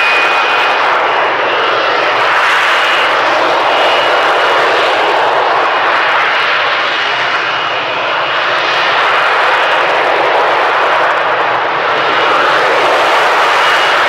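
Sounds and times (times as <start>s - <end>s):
jet engine roaring with whine: 0.0s - 14.0s.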